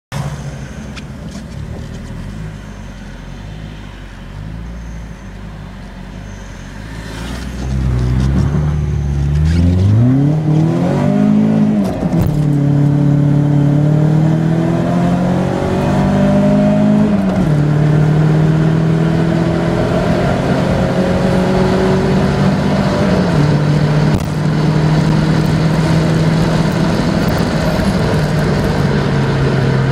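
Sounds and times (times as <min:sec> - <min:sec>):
car engine accelerating: 0:05.6 - 0:29.9.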